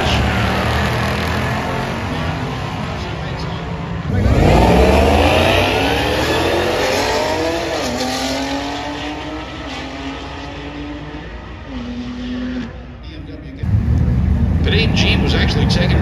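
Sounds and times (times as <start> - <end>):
car engine accelerating hard: 0.0 - 12.9.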